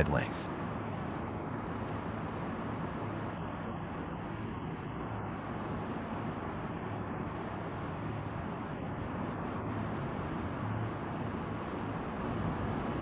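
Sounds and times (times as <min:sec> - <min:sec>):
low hum: 0:00.0 - 0:13.0
wind: 0:00.0 - 0:13.0.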